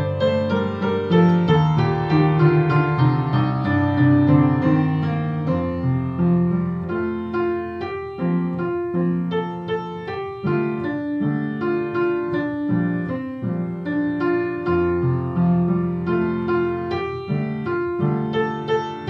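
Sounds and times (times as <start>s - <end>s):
slow gentle piano piece: 0.0s - 19.0s.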